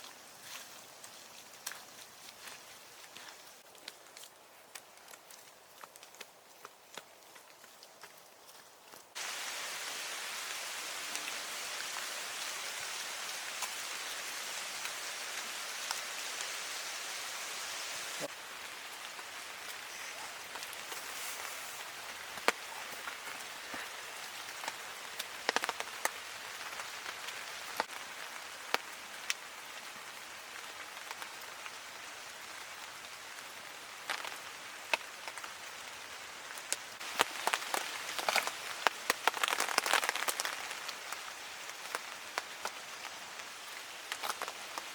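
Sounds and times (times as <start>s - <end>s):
rain falling: 8.8s - 44.9s.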